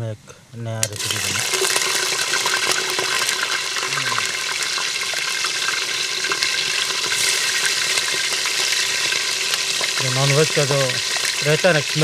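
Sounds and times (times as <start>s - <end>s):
chicken sizzling in hot oil: 0.8s - 12.0s.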